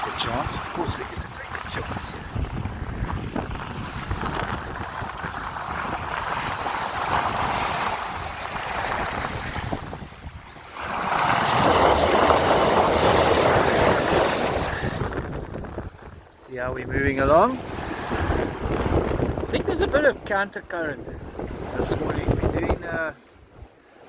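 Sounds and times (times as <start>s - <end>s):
wind buffeting microphone: 0.0s - 23.8s
wind and sea rushing: 0.0s - 24.0s.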